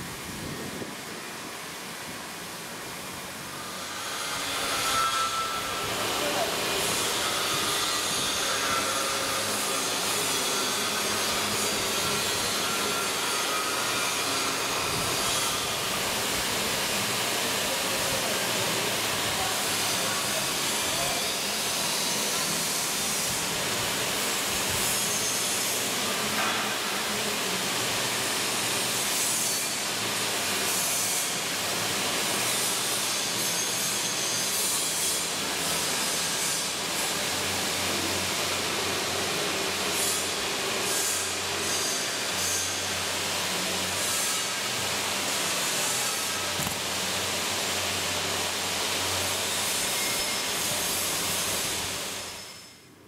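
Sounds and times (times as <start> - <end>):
loud steady hiss: 0.0 - 53.0.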